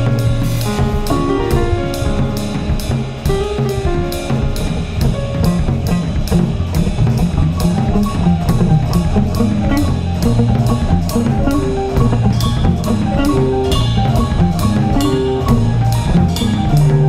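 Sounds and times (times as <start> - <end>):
drum kit beat: 0.0 - 17.0
rock band playing: 0.0 - 17.0.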